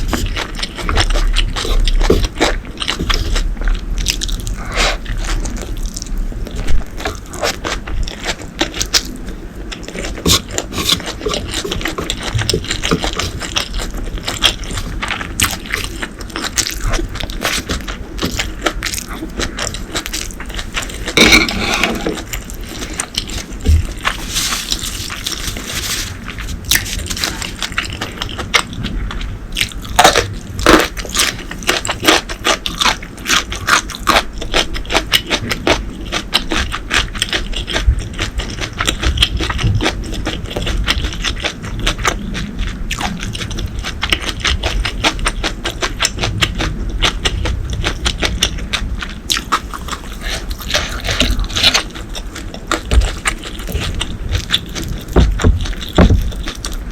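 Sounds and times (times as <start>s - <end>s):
person chewing crunchy food: 0.0s - 56.9s.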